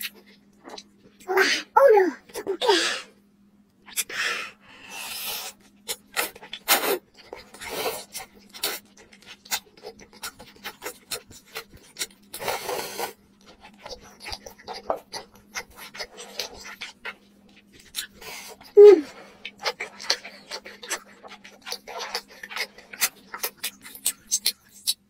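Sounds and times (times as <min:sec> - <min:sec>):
slurping rice cakes: 0:03.8 - 0:25.0.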